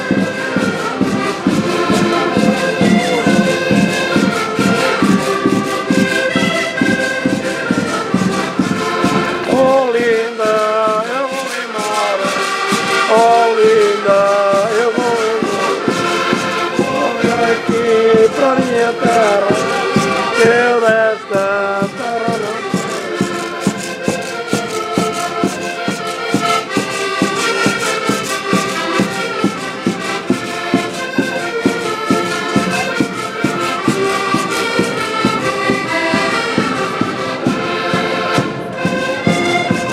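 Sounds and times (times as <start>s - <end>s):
accordion ensemble playing: 0.0s - 39.9s.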